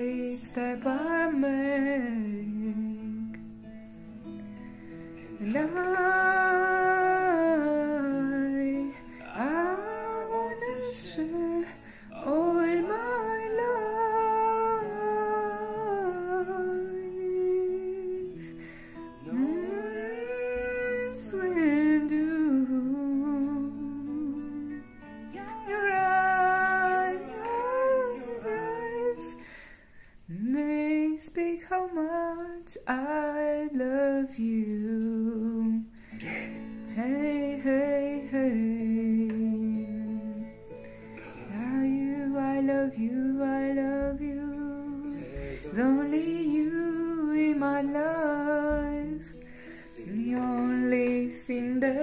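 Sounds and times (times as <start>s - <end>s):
person singing: 0.0s - 3.6s, 5.2s - 52.0s
plucked guitar: 0.0s - 52.0s.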